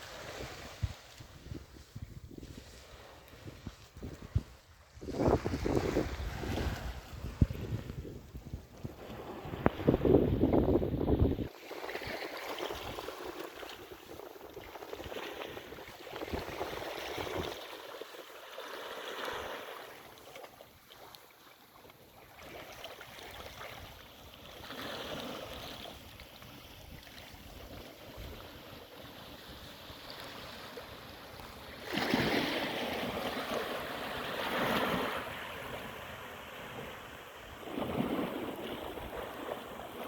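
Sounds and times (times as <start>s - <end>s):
sea waves washing on beach: 0.0s - 40.0s.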